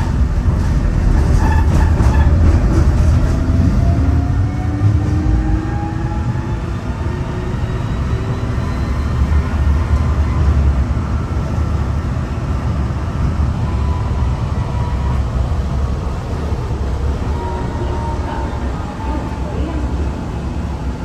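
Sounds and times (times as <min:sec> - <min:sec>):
tram running rumble: 0:00.0 - 0:21.0.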